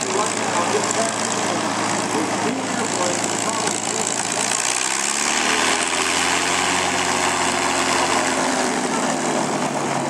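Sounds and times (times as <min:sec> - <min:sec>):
propeller aircraft engine running: 0:00.0 - 0:10.0.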